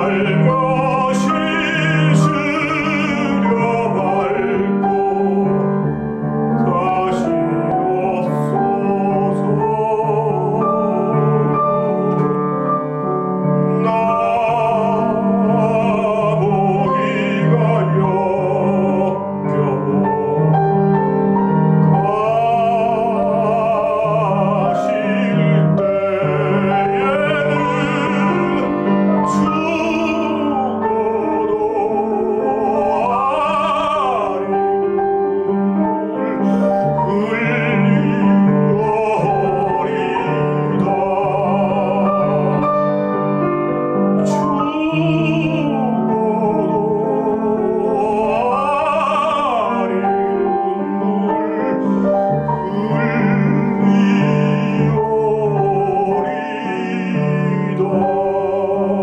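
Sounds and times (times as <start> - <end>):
piano accompaniment: 0.0 - 59.0
tenor singing operatically: 0.0 - 59.0.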